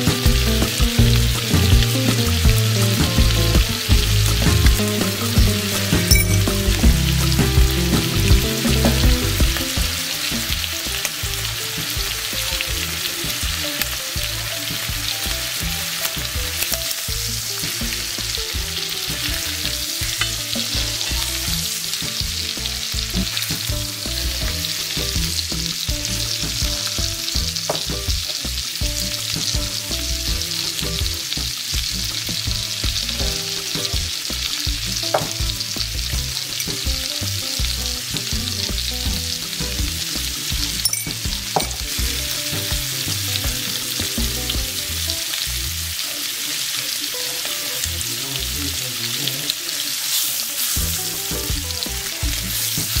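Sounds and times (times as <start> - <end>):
chicken sizzling in oil: 0.0 - 53.0.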